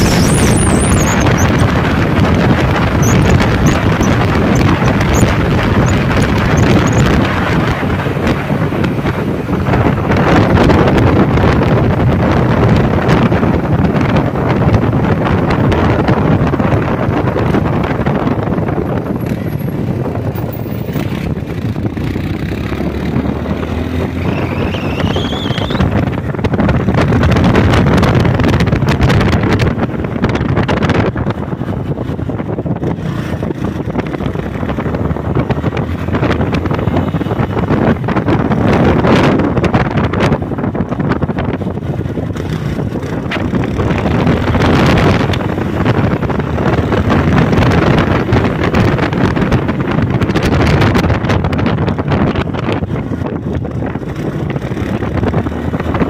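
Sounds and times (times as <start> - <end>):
road and engine noise: 0.0 - 56.0
wind buffeting microphone: 0.0 - 56.0.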